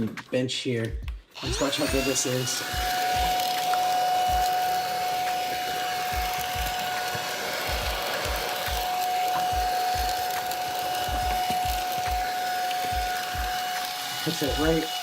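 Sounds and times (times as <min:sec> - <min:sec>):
stick vacuum motor whine: 0:01.4 - 0:15.0.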